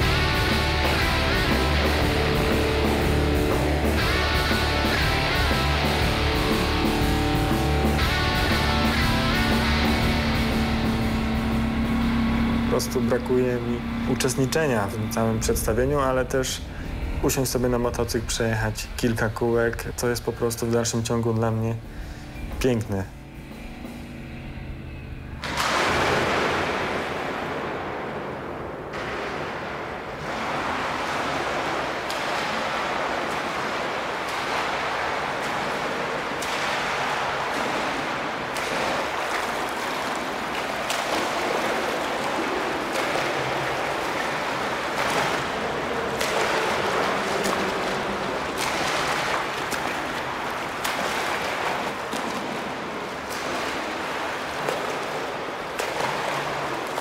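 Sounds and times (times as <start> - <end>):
swimmer splashing: 0.0 - 22.6, 25.3 - 57.0.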